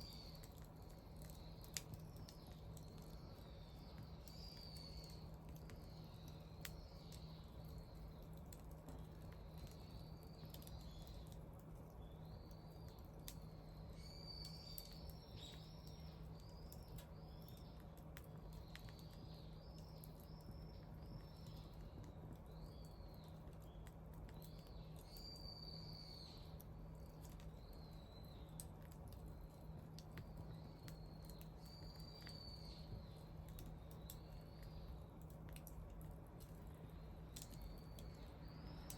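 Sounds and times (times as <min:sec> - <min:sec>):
low steady hum: 0:00.0 - 0:38.9
small birds chirping: 0:00.0 - 0:38.9
wood fire crackling: 0:00.0 - 0:38.9.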